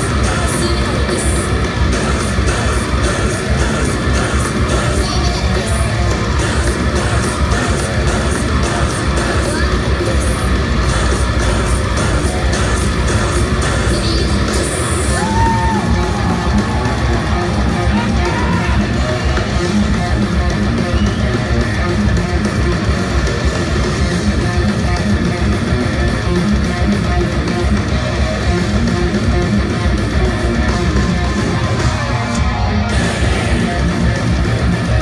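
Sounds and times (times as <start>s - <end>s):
bass guitar: 0.0s - 35.0s
electric guitars strumming: 0.0s - 35.0s
steady drum beat: 0.0s - 35.0s.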